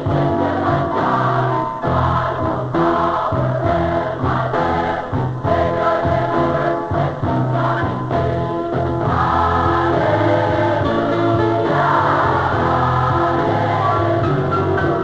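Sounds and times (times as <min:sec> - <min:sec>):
choir singing gospel: 0:00.0 - 0:15.0
steady bass line: 0:00.0 - 0:15.0.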